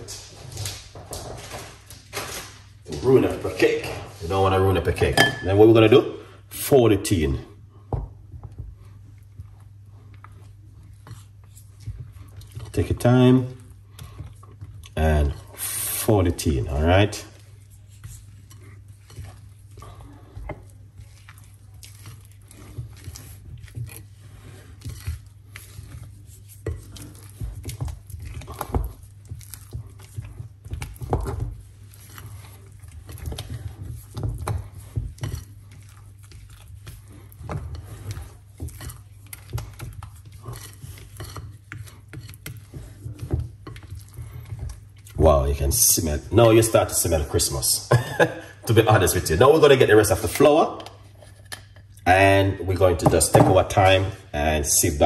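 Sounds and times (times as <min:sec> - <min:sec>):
utensil scraping a mixing bowl: 0:03.0 - 0:55.0.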